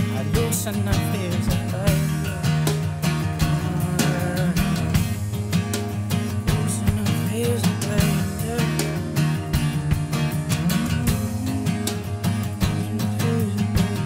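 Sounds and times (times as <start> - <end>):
guitar song with steady beat: 0.0 - 14.0.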